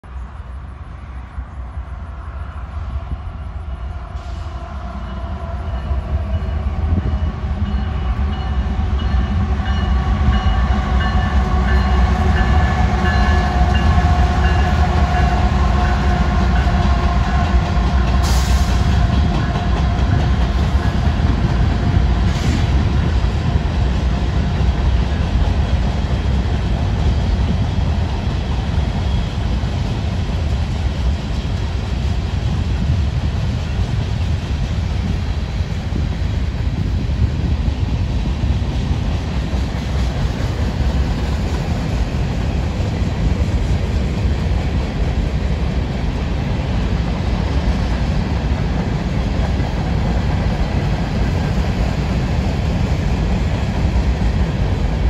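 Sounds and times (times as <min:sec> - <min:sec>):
diesel locomotive engine drone: 0:00.0 - 0:55.0
freight cars rumbling on rails: 0:00.0 - 0:55.0.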